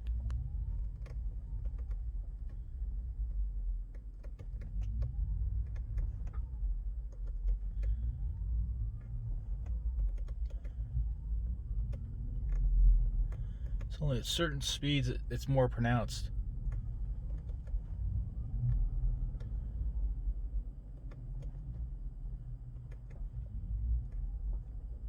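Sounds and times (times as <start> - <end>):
electric car drive whine: 0.0 - 25.0
tyres rolling low rumble: 0.0 - 25.0.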